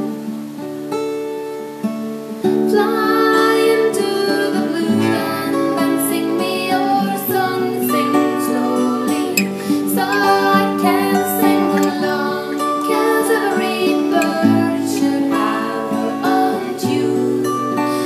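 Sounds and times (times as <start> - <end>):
acoustic guitar playing: 0.0 - 18.0
person singing: 2.5 - 18.0.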